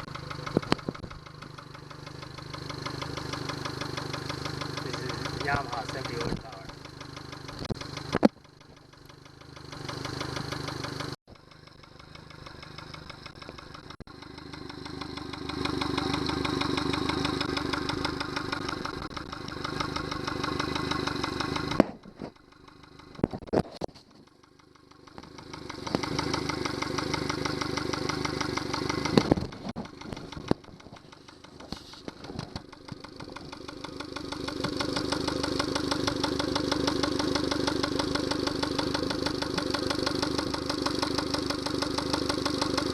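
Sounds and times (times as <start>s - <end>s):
sharp clicks: 0.0s - 15.4s, 16.0s - 42.9s
outboard motor running: 0.0s - 42.9s.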